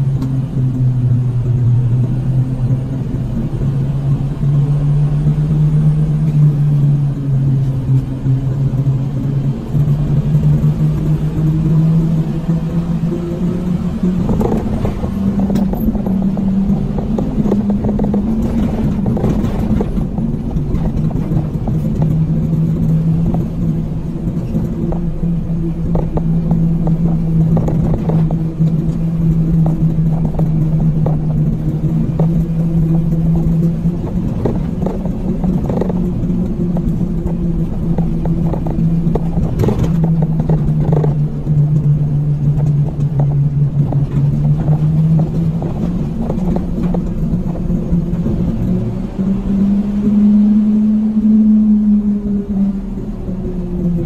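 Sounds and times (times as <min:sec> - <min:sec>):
road and wind rumble: 0:00.0 - 0:54.0
vehicle engine running: 0:00.0 - 0:54.0.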